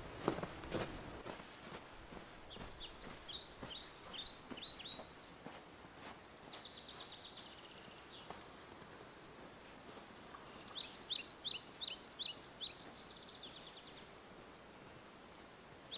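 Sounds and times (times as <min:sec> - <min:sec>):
faint footsteps in snow: 0:00.0 - 0:14.2
songbird chirping and trilling: 0:02.1 - 0:15.9.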